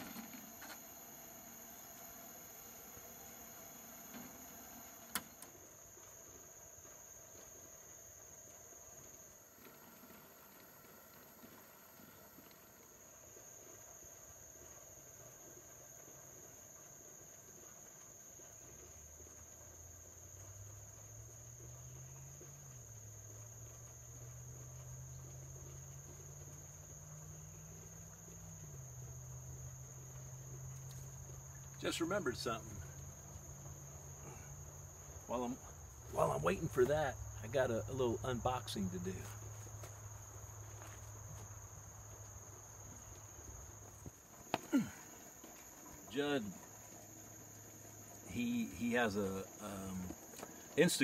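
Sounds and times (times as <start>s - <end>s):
insects droning: 0.0s - 51.0s.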